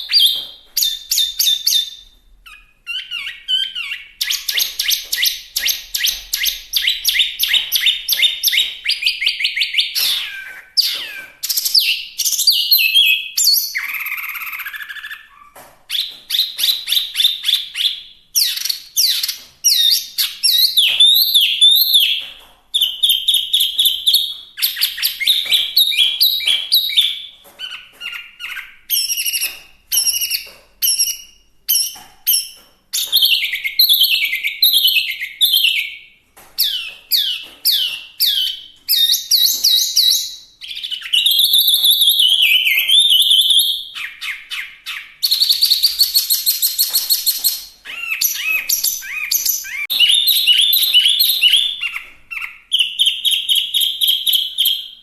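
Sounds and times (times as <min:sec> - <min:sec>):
songbird singing whistled notes: 0:00.0 - 0:55.0.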